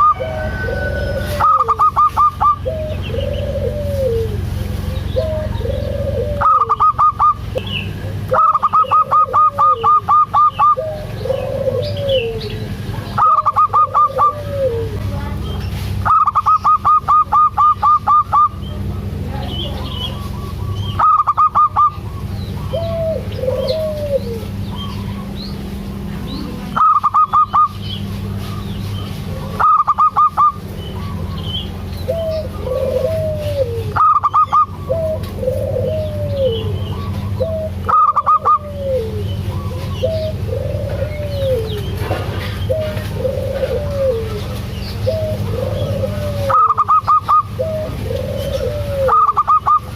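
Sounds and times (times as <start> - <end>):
soft dove coos: 0.0 - 15.3, 20.1 - 31.4, 32.0 - 49.9
doves calling quick notes: 0.0 - 49.9
low background hum: 0.0 - 49.9.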